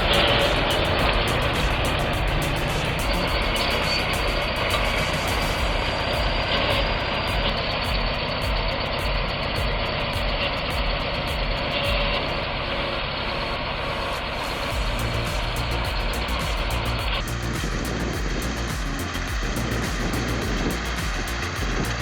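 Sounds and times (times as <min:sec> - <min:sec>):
heavy machine engine throbbing: 0:00.0 - 0:22.0.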